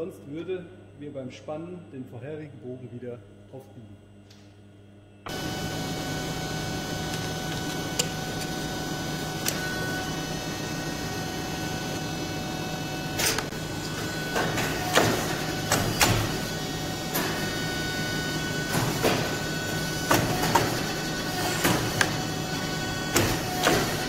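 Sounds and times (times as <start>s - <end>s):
tube bending machine humming: 3.2s - 24.0s.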